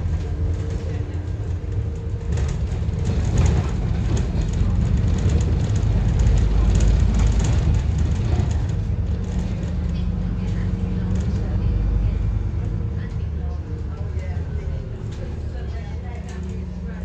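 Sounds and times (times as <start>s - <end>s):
interior rattles: 0.0s - 16.9s
bus engine running: 0.0s - 17.0s.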